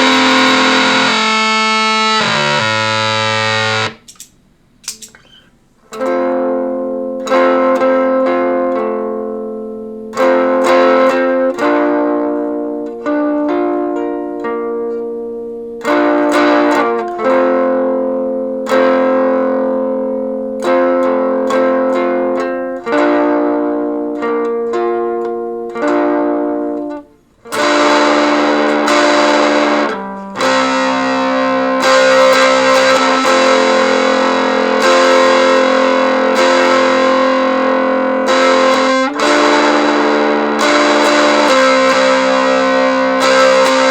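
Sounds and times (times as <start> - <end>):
amplified guitar chords strummed: 0.0 - 4.1, 5.9 - 43.9.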